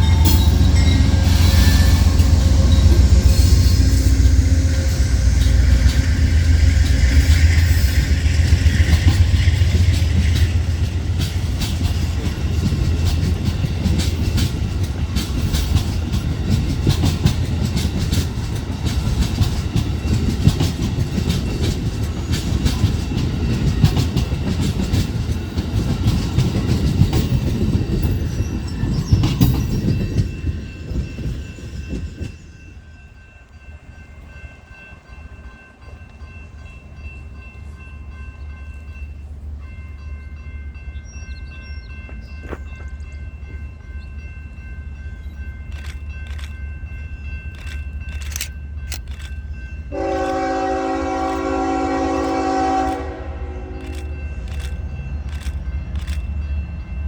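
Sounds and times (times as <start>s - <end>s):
train wheels clattering: 0.0s - 39.0s, 41.0s - 57.0s
train rumbling past: 0.0s - 57.0s.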